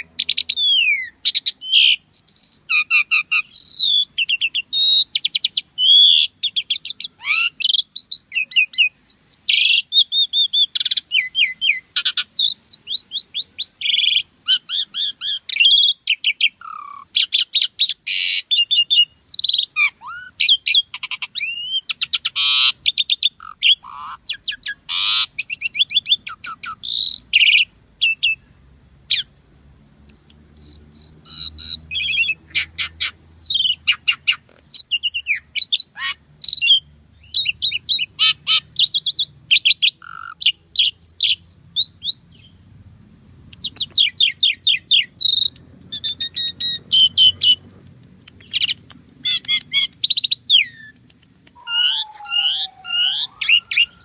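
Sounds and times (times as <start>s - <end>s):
starling singing: 0.0s - 28.5s, 30.1s - 42.6s, 43.6s - 54.0s.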